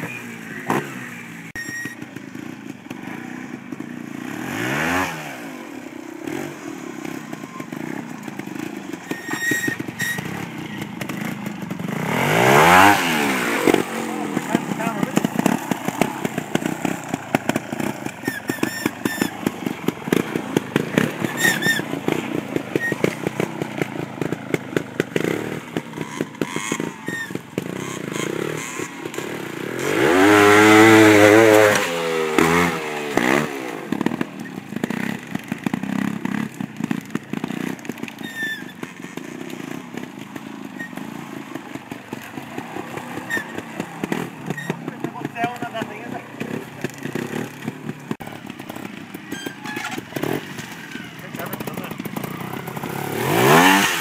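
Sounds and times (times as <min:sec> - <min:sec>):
motorcycle engine chugging: 0:00.0 - 0:54.0
loud engine rev: 0:03.0 - 0:05.6, 0:08.6 - 0:37.9, 0:42.6 - 0:54.0.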